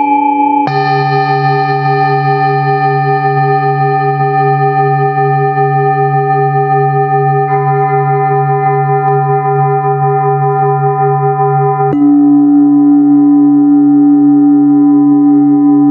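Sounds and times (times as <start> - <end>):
singing bowl ringing tones: 0.0 - 15.9.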